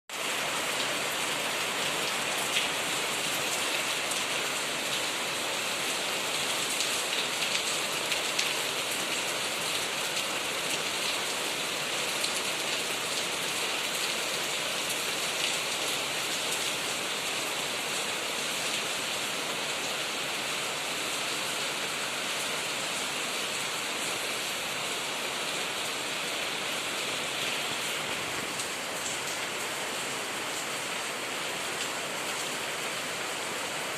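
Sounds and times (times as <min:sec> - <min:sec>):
rain pattering on surfaces: 0:00.1 - 0:33.9.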